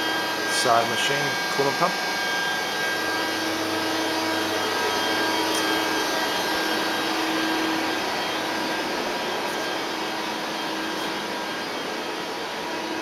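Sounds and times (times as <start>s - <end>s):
lathe machine whirring and humming: 0.0s - 13.0s.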